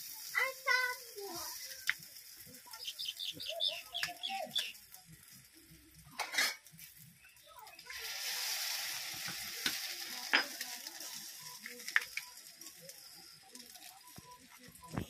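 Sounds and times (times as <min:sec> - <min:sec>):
egg sizzling in hot oil: 0:00.0 - 0:15.0.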